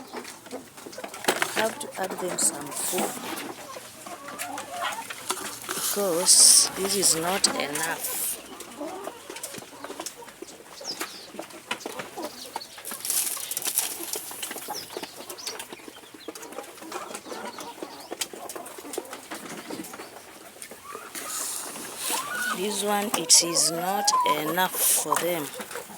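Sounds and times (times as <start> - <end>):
beaks pecking at feed: 0.0 - 25.9
chicks chirping: 0.0 - 25.9.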